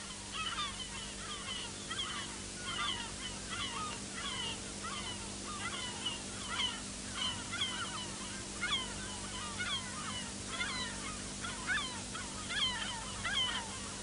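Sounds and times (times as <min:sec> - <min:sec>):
gulls squawking: 0:00.0 - 0:14.0
steady low hum: 0:00.0 - 0:14.0.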